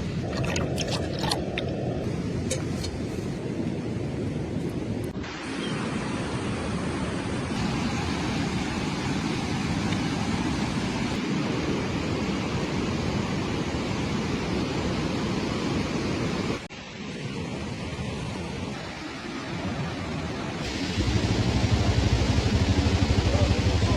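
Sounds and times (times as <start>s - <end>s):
steady rushing noise: 0.0s - 23.9s.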